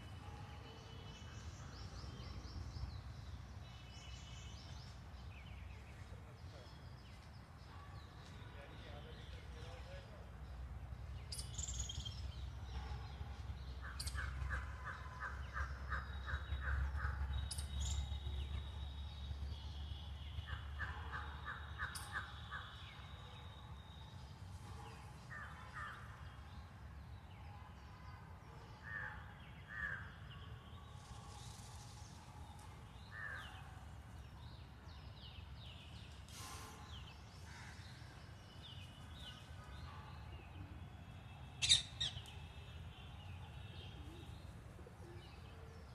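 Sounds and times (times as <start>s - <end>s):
birds calling and chirping: 0.0s - 45.9s.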